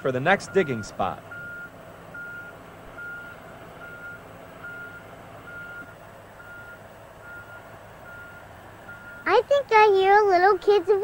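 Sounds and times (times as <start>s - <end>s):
excavator travel alarm beeping: 0.0s - 9.4s
excavator engine drone: 0.0s - 11.0s.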